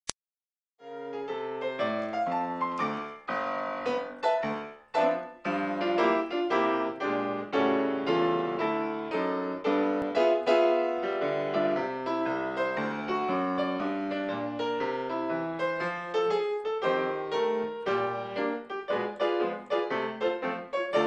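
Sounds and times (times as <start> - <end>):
gentle piano music: 0.8 - 21.0.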